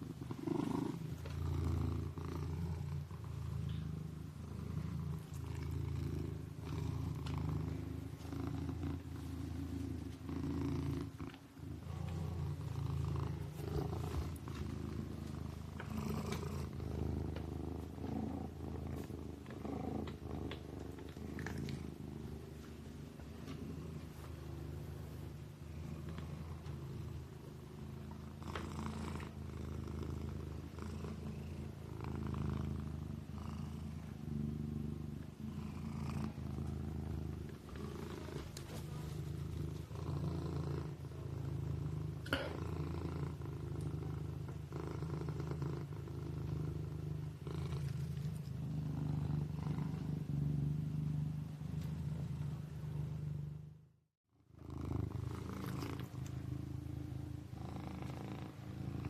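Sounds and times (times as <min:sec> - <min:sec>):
kitten purring: 0:00.0 - 0:59.0.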